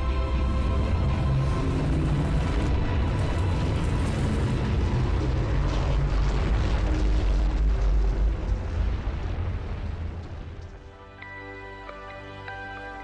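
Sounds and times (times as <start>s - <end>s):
deep rumble: 0.0s - 11.0s
dark music: 0.0s - 13.0s.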